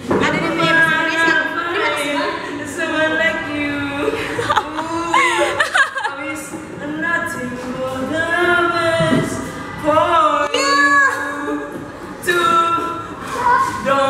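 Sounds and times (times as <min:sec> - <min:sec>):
young man singing unaccompanied: 0:00.2 - 0:14.0.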